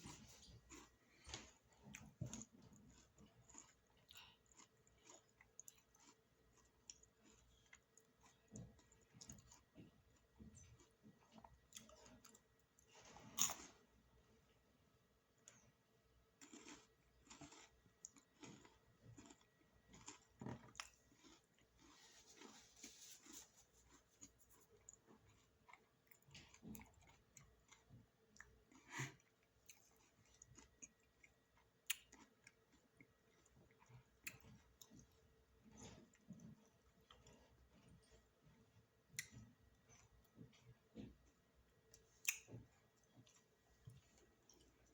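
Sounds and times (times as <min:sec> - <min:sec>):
person chewing crunchy snack: 0:00.0 - 0:13.8, 0:16.4 - 0:41.2.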